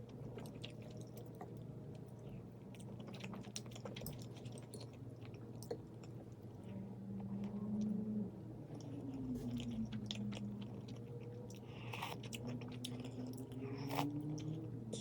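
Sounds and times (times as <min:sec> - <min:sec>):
person chewing crunchy food: 0:00.0 - 0:07.6, 0:08.7 - 0:15.0.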